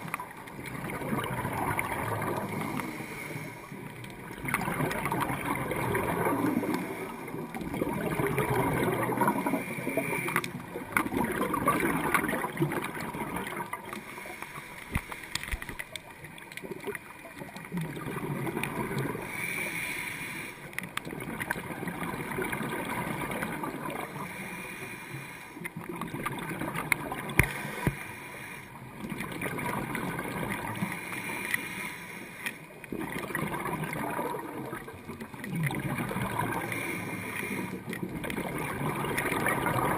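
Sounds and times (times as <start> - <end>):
underwater exhaust bubbles gurgling: 0.0 - 39.9.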